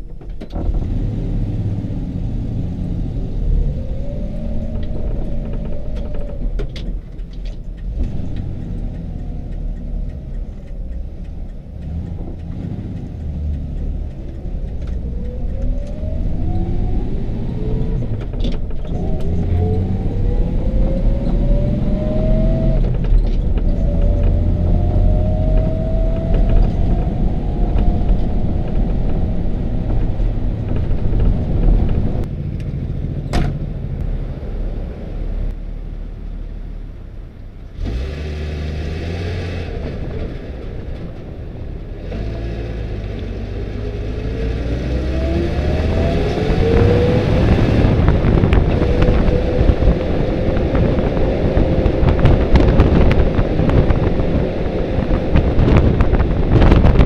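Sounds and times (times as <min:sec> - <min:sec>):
engine rumble and whine: 0:00.0 - 0:57.0.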